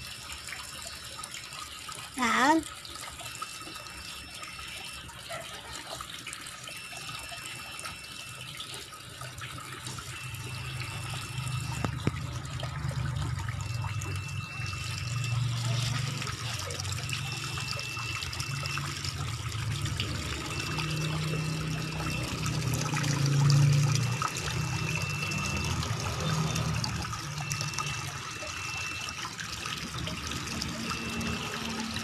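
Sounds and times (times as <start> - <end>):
tap water pouring into tub: 0.0 - 32.0
faint high beeps: 3.2 - 32.0.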